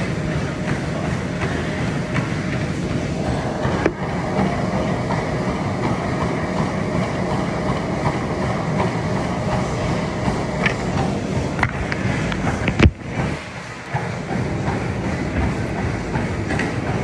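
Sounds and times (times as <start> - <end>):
footfalls on treadmill deck: 0.0 - 17.0
treadmill belt and motor rumble: 0.0 - 17.0.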